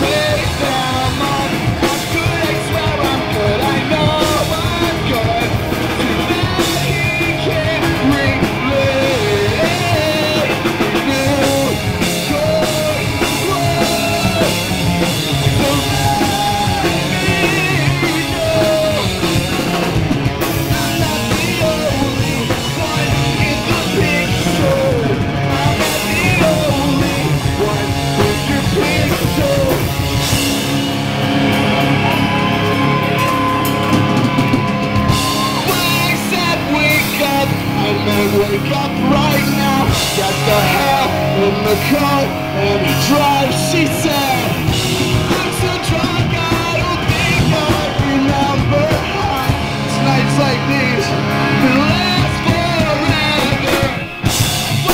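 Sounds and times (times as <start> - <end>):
person singing: 0.0 - 30.6, 31.9 - 54.9
bass guitar: 0.0 - 54.9
drum kit: 0.0 - 54.9
electric guitar: 0.0 - 54.9.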